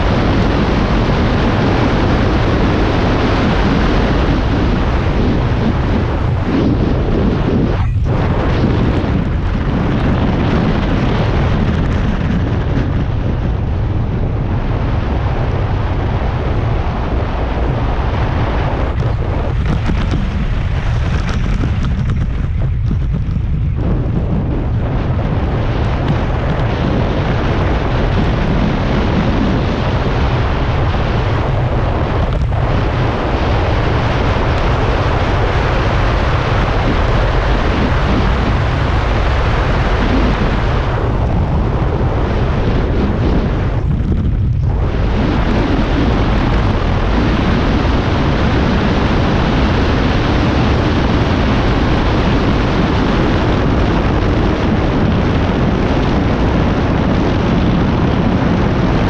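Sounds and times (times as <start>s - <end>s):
wind buffeting the microphone: 0.0s - 59.0s.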